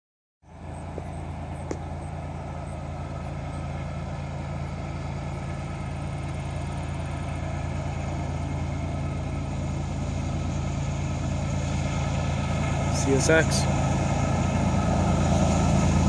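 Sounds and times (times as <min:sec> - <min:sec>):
locomotive diesel engines droning: 0:00.4 - 0:16.0.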